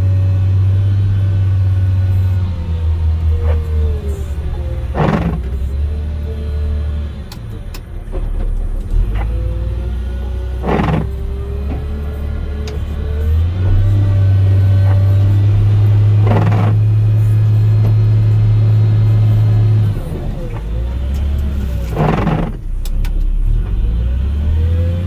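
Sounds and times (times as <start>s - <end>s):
wheel loader diesel engine: 0.0s - 25.0s.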